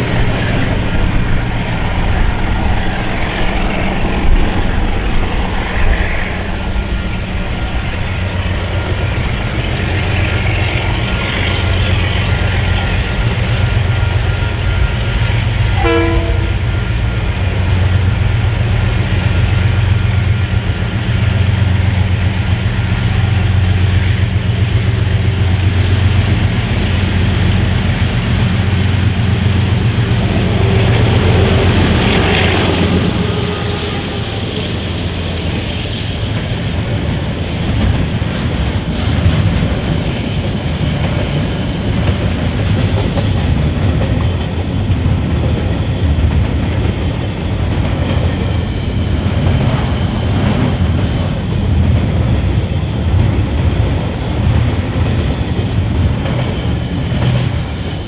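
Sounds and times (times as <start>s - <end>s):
diesel locomotive engines rumbling: 0.0s - 58.0s
train wheels on rail: 0.0s - 58.0s.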